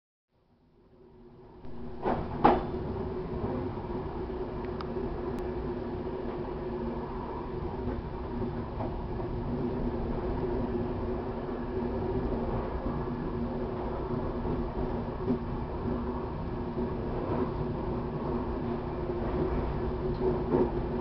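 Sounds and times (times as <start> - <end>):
train rumbling on rails: 0.9 - 21.0.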